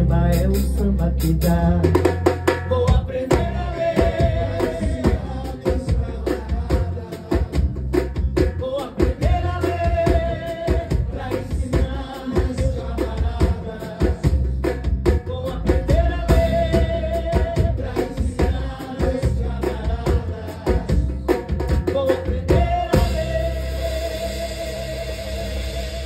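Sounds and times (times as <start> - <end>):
drum kit playing: 0.0 - 26.0.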